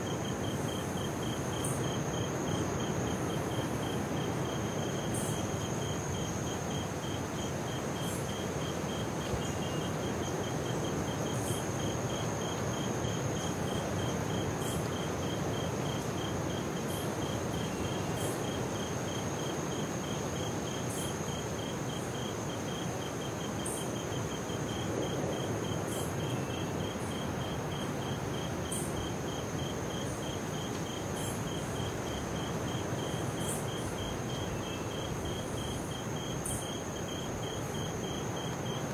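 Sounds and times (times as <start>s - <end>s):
insect pulsing call: 0.0s - 38.9s.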